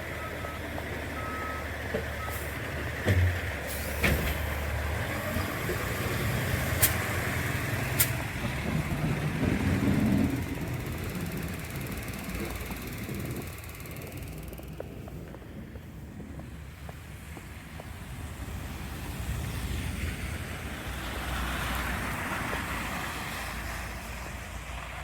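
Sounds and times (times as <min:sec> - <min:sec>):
truck engine rumble: 0:00.0 - 0:25.0.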